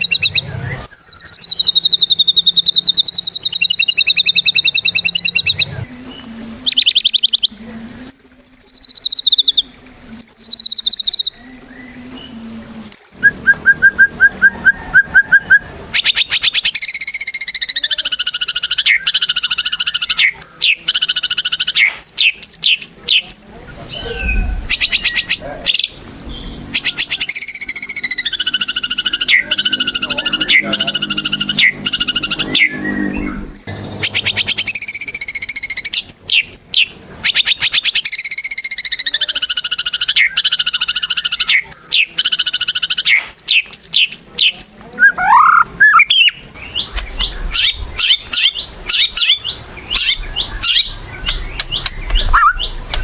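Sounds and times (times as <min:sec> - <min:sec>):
bird singing trills and whistles: 0:00.0 - 0:53.0.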